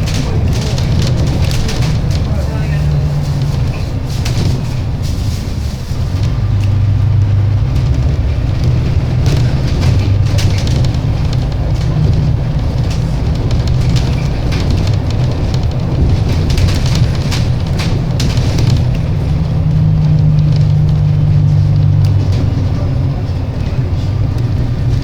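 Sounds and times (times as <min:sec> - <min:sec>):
bus engine drone: 0:00.0 - 0:25.0
light rattles and knocks: 0:00.0 - 0:25.0.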